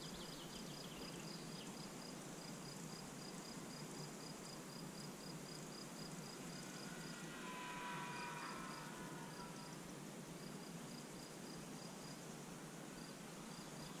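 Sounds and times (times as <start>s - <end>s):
crickets chirping: 0.0s - 14.0s
faint multi-tone whine: 0.0s - 14.0s.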